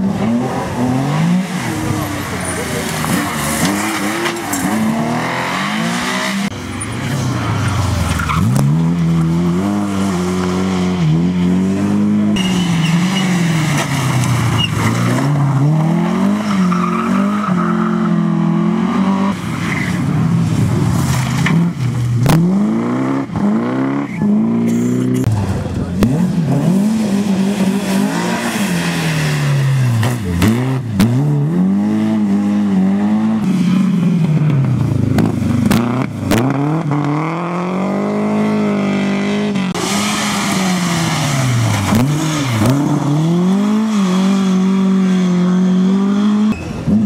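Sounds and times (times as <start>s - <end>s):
rally car engines revving past: 0.0s - 47.0s.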